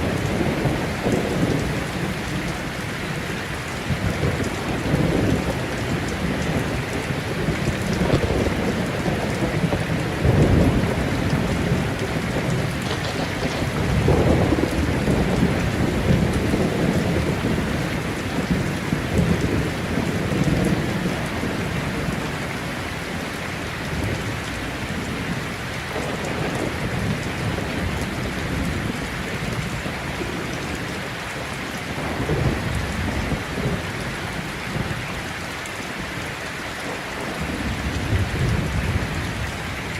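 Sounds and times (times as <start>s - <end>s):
rolling thunder: 0.0s - 35.4s
heavy rain: 0.0s - 39.9s.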